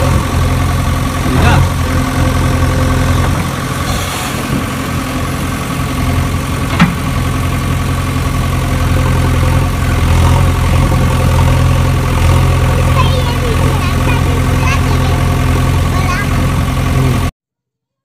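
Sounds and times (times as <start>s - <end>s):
engine idling drone: 0.0s - 17.3s.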